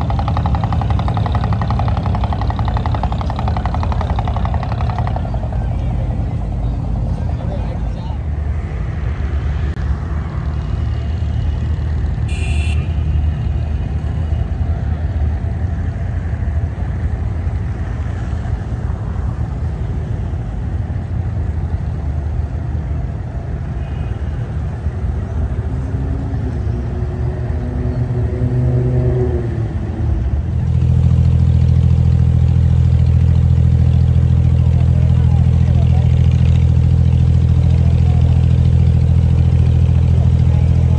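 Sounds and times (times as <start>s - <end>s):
boat diesel engine rumble: 0.0s - 23.8s, 30.2s - 40.9s.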